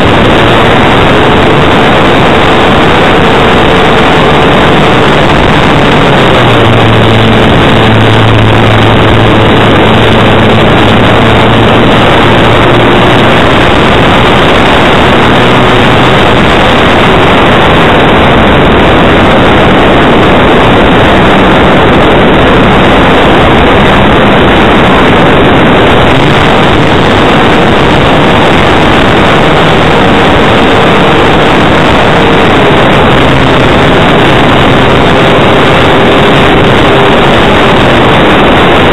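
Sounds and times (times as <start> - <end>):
aircraft propeller drone: 0.0 - 38.9
wind rushing over microphone: 0.0 - 38.9.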